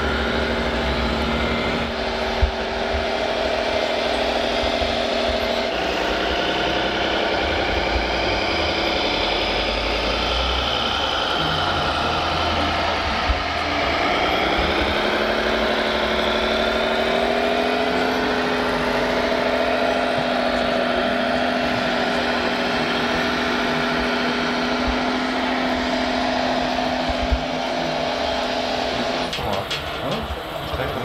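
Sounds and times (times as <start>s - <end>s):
toy truck motor whining: 0.0s - 31.0s.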